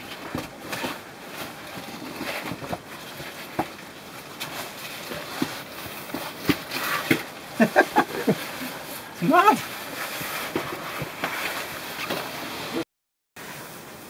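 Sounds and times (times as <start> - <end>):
clothing rustle: 0.0 - 12.8.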